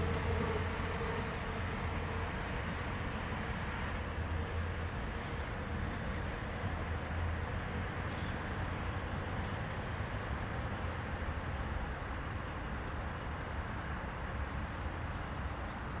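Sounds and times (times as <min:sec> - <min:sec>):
faint high whine: 0:00.0 - 0:16.0
train rumbling: 0:00.0 - 0:16.0.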